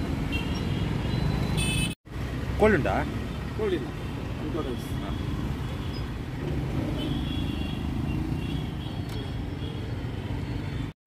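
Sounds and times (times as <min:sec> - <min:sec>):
low traffic rumble: 0:00.0 - 0:10.9.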